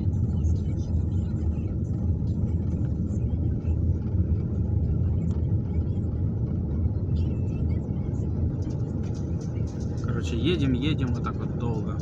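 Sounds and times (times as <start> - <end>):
car driving on snowy road: 0.0 - 12.0.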